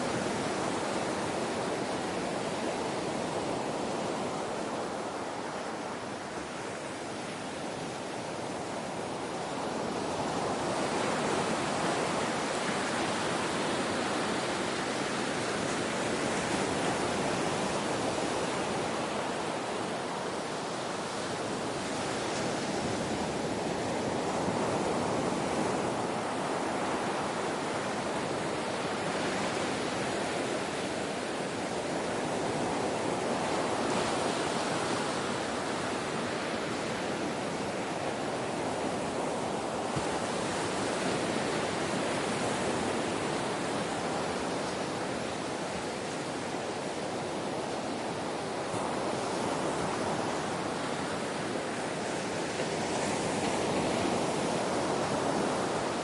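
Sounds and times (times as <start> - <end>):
ocean surf rushing: 0.0 - 56.0.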